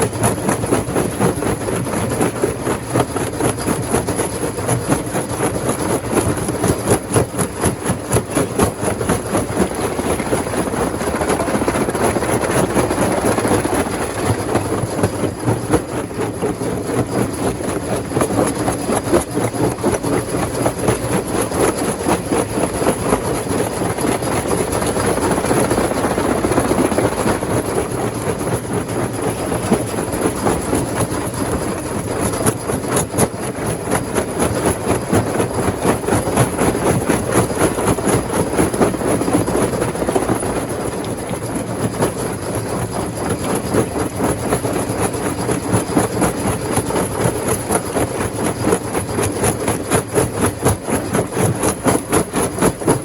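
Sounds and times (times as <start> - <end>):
rock crusher machine running: 0.0 - 53.0.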